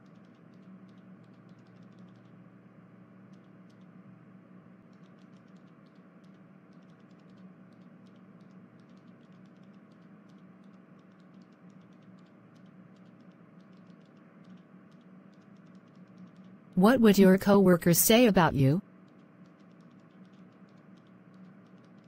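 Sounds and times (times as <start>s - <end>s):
typing on computer keyboard: 0.0s - 2.4s, 3.2s - 4.0s, 4.8s - 16.7s, 19.0s - 22.0s
low electrical hum: 0.0s - 22.0s.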